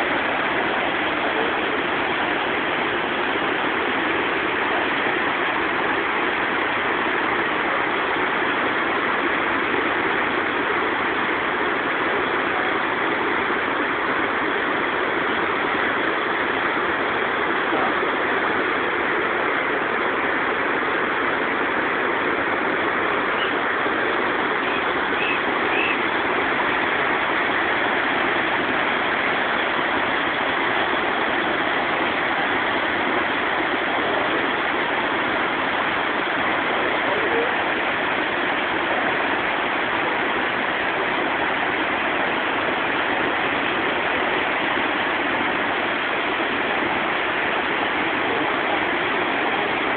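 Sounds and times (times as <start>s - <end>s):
whitewater roaring over rapids: 0.0s - 49.9s.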